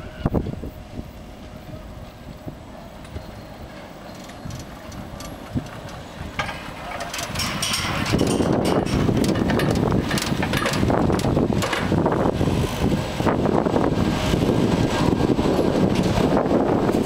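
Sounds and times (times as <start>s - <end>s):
chairlift machinery rumbling: 0.0s - 17.0s
wind noise on microphone: 0.0s - 17.0s.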